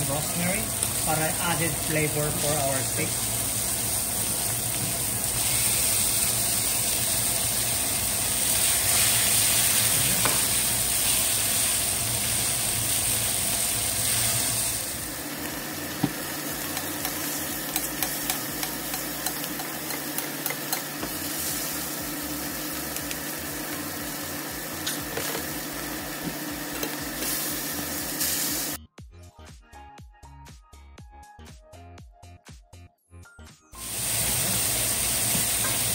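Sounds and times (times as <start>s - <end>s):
steaks sizzling in frying pan: 0.0s - 28.8s, 33.8s - 35.9s.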